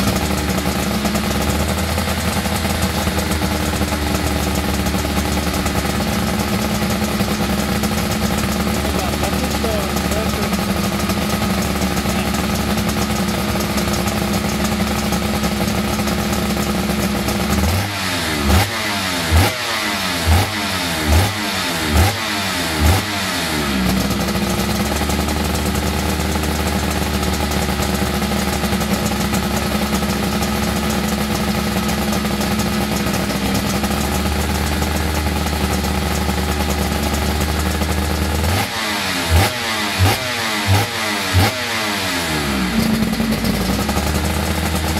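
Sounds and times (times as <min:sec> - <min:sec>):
two-stroke engine revving: 0:00.0 - 0:44.9.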